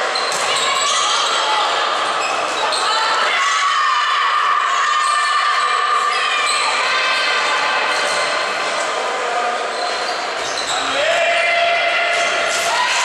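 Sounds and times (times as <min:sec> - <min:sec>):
people shouting in a hall: 0:00.0 - 0:13.0.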